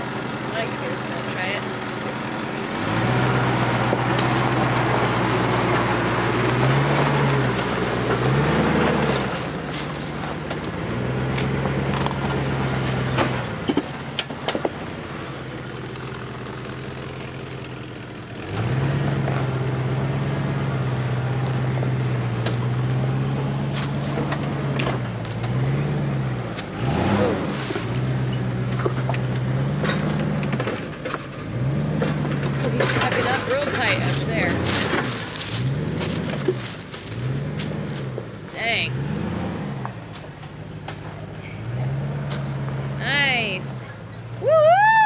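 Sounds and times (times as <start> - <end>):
engine revving under load: 0.0 - 44.6.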